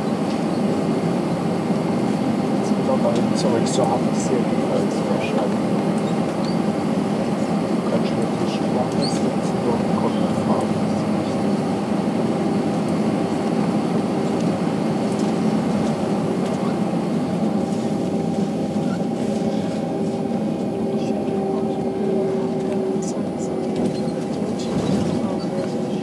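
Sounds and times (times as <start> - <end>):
aircraft cabin drone: 0.0 - 26.0.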